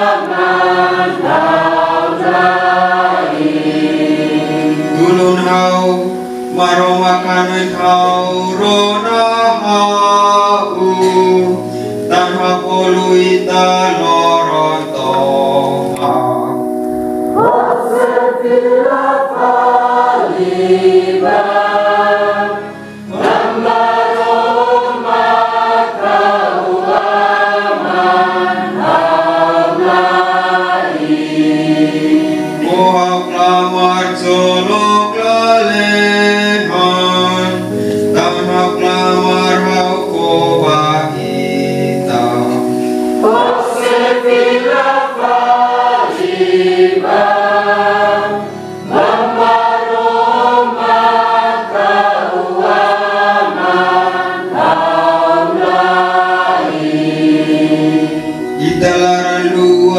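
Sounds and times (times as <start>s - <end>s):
church choir singing: 0.0s - 59.9s.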